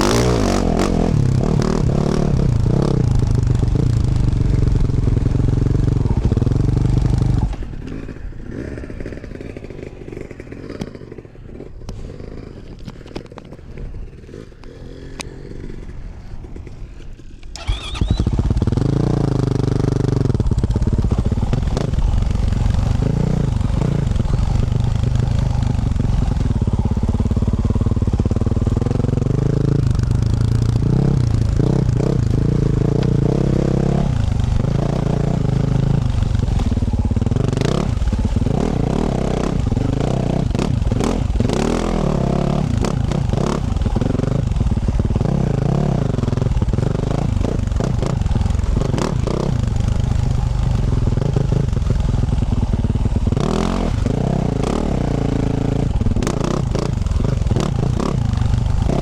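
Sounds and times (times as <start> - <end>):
motorcycle engine revving: 0.0 - 13.6, 14.2 - 59.0.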